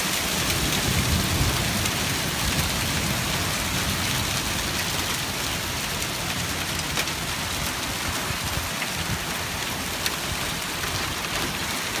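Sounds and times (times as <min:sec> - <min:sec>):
heavy rain and hail falling: 0:00.0 - 0:12.0.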